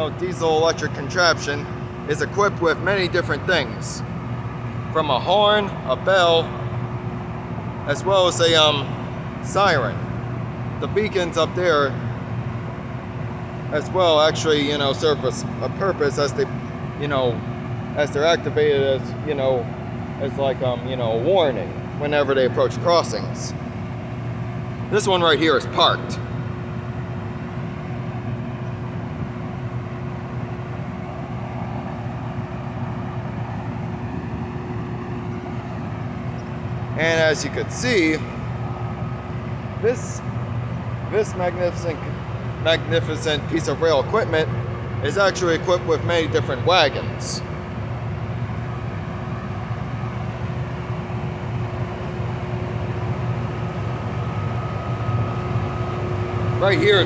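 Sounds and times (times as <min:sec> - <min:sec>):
constant tone: 0:00.0 - 0:57.0
diesel engine idling hum: 0:00.0 - 0:57.0
faint high whine: 0:00.0 - 0:57.0.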